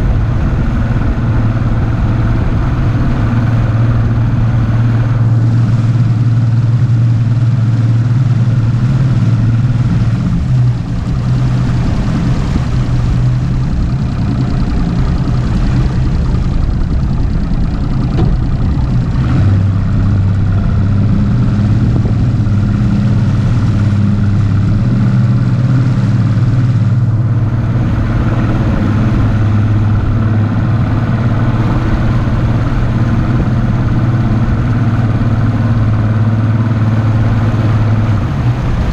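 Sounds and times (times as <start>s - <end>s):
outboard motor running: 0.0s - 38.9s
rush of wind and water: 0.0s - 38.9s.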